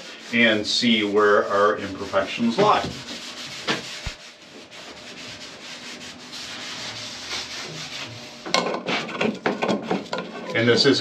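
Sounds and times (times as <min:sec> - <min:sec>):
cloth rag rubbing on wall: 0:00.0 - 0:11.0.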